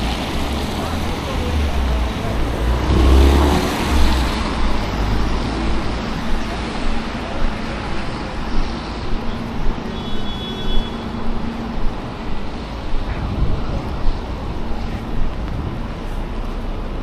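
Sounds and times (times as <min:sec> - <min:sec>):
road traffic noise: 0:00.0 - 0:17.0
vehicle engine humming: 0:00.0 - 0:17.0.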